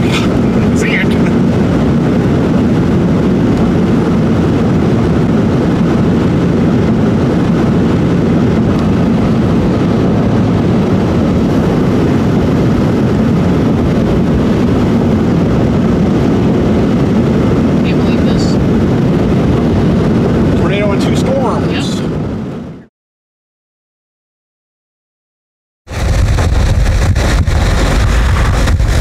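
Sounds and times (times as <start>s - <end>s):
car road noise: 0.0s - 22.9s, 25.9s - 29.0s.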